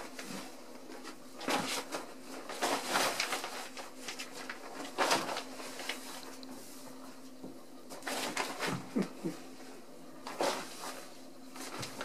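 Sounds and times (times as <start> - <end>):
kittens scrabbling and scratching: 0.0 - 7.3, 7.9 - 12.0.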